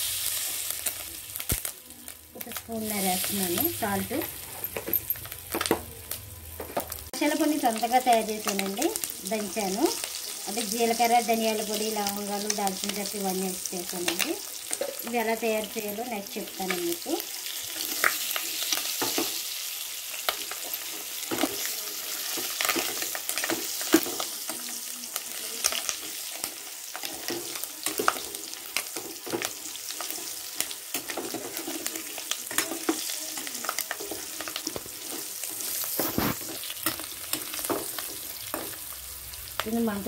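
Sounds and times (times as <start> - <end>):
fish roe sizzling in oil: 0.0 - 40.0.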